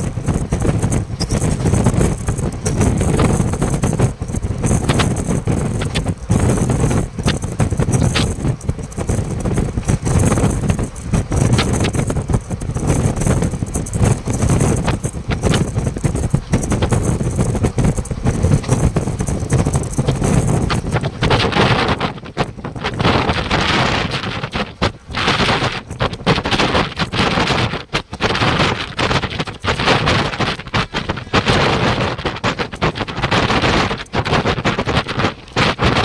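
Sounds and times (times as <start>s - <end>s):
sharp track clicks: 0.0s - 36.0s
train rumbling and rattling: 0.0s - 36.0s.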